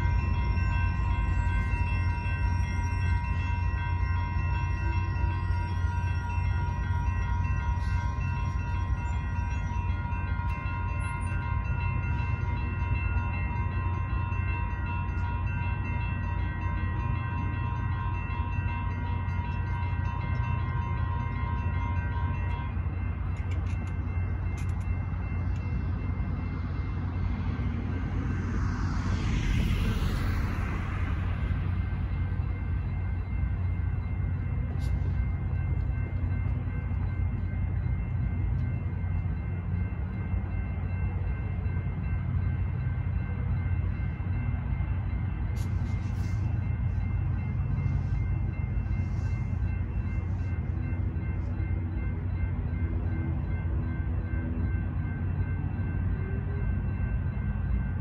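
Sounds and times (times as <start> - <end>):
crossing signal bell ringing: 0.0 - 58.0
steady low rumble: 5.1 - 53.2.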